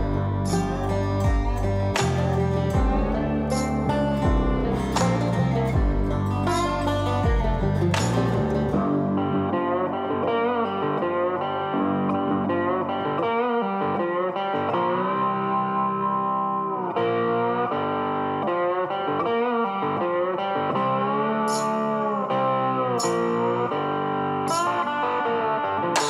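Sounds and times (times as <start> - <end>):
guitar with bending notes: 0.0 - 26.0.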